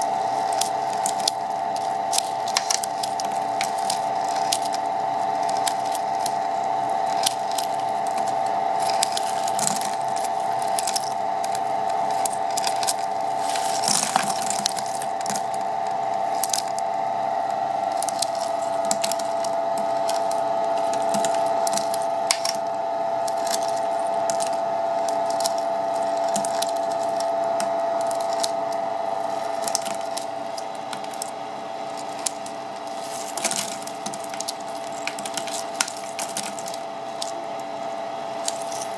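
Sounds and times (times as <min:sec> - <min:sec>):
ice flakes crackling and crunching: 0:00.0 - 0:16.8, 0:17.9 - 0:37.7, 0:38.3 - 0:38.9
ice machine hum and whine: 0:00.0 - 0:38.9.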